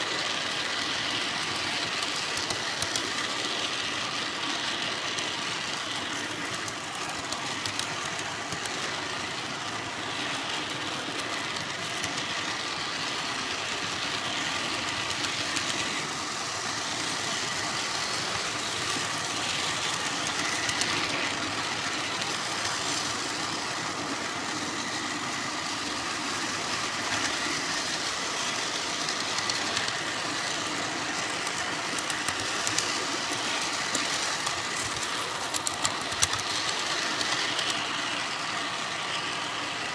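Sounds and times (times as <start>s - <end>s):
model train wheels rattling on rail: 0.0s - 39.9s.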